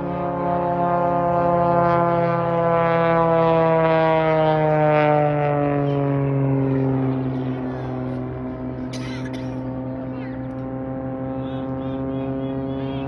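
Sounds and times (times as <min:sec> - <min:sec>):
aircraft flying past: 0:00.0 - 0:13.0.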